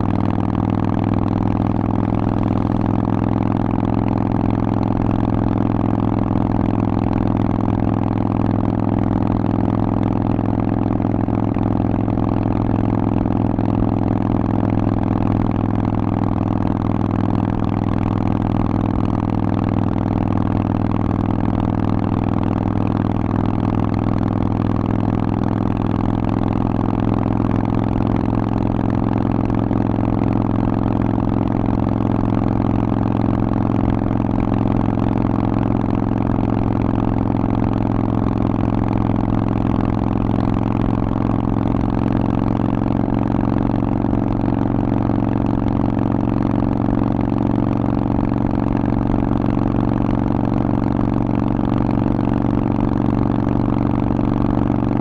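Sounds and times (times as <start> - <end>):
motorcycle engine running steadily: 0.0 - 55.0.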